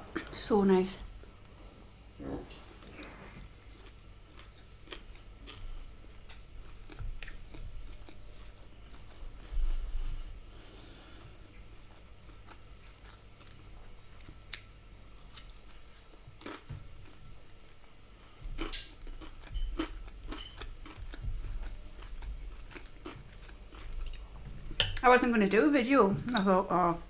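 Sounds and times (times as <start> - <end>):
chewing and crunching food: 1.0 - 25.6.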